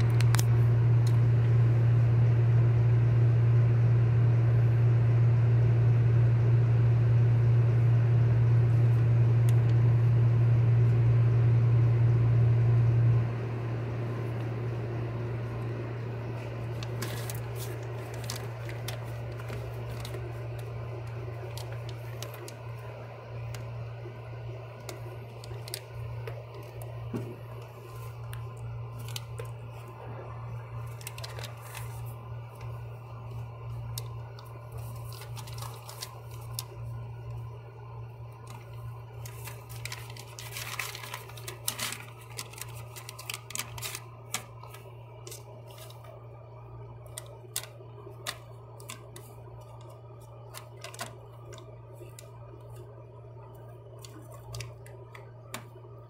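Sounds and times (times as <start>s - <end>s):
low hum: 0.0s - 56.0s.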